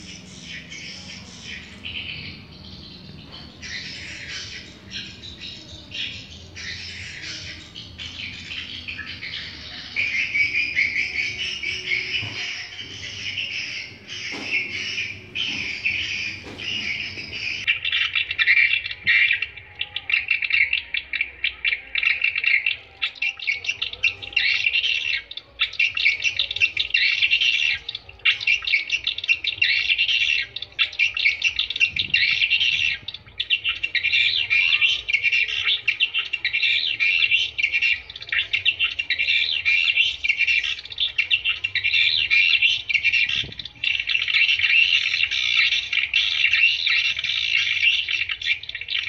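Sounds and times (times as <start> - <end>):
swiftlets twittering: 0.0 - 49.0.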